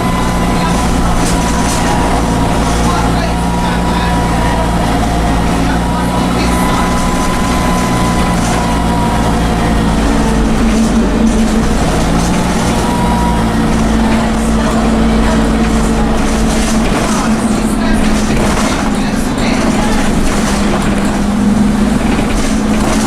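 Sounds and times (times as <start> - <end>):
bus diesel engine running: 0.0 - 23.0
turbocharger whine: 0.0 - 23.0.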